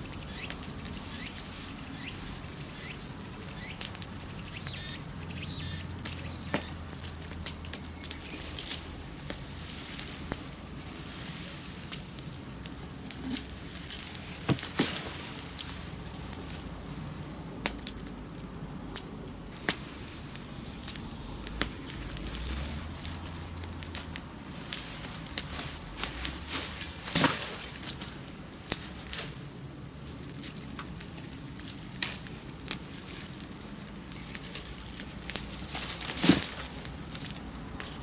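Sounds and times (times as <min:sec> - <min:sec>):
campfire crackling and popping: 0:00.0 - 0:38.0
high steady hiss: 0:00.0 - 0:38.0.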